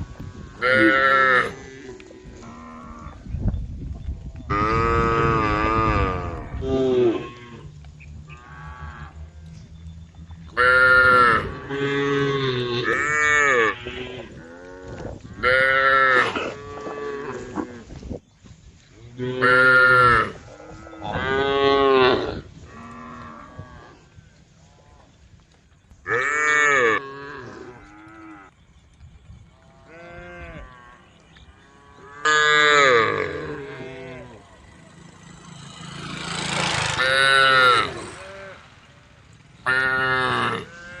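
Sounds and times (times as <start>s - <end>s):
cows mooing: 0.4s - 3.2s, 4.3s - 18.0s, 19.1s - 25.2s, 26.1s - 28.5s, 29.6s - 41.0s.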